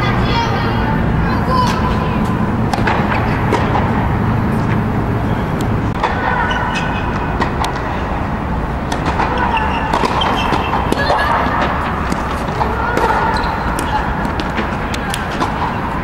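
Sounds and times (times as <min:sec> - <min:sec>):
air blowers rumbling and hissing: 0:00.0 - 0:16.0
tennis balls bouncing and struck: 0:01.3 - 0:16.0.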